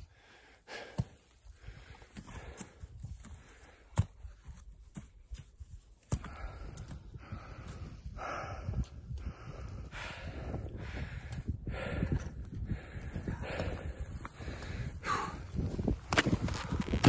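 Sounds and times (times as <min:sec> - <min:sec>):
person breathing hard: 0:00.0 - 0:04.2, 0:06.1 - 0:15.7.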